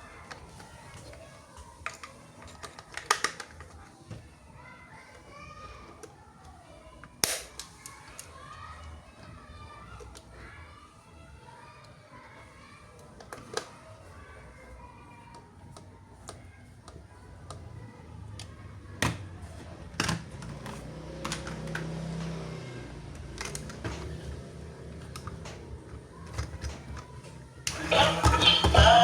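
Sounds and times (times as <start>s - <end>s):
plastic toys clicking and tapping: 0.1s - 4.4s, 5.0s - 10.5s, 13.0s - 14.1s, 14.7s - 22.4s, 23.1s - 29.0s.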